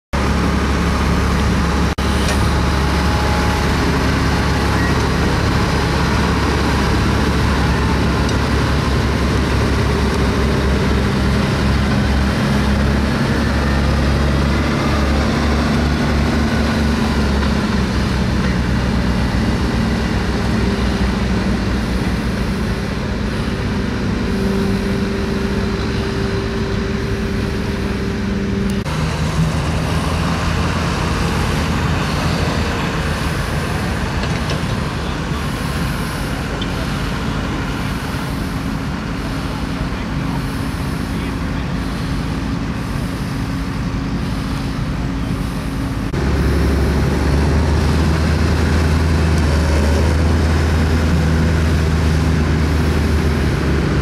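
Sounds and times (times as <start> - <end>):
heavy low rumble: 0.1 - 54.0
tractor engine running under load: 0.2 - 54.0.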